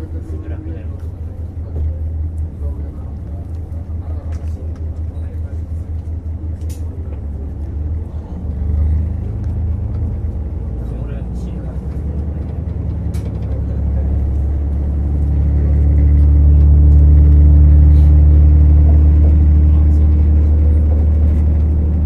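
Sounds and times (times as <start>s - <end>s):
railcar diesel engine humming: 0.0s - 22.0s.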